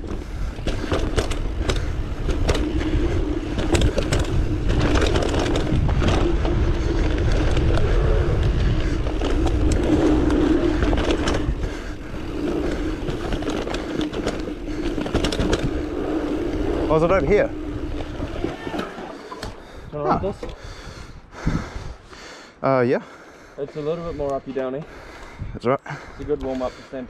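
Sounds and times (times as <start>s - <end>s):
tyres humming on dirt: 0.0s - 21.7s
wind noise on microphone: 0.0s - 22.1s, 25.2s - 26.4s
bike clicking and rattling: 0.0s - 22.4s, 23.2s - 27.0s.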